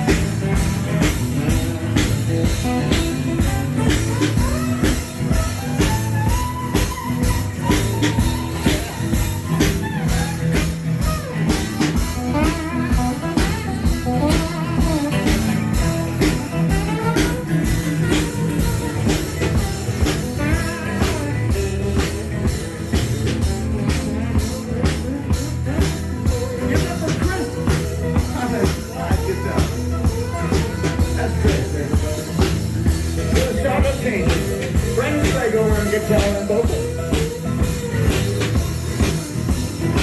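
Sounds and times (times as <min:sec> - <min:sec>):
drum kit beat: 0:00.0 - 0:40.0
guitar: 0:00.0 - 0:40.0.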